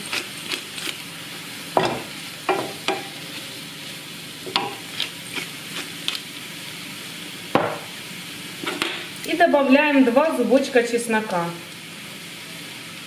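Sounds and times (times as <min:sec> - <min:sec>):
mushrooms and onion sizzling in pan: 0:00.0 - 0:13.0.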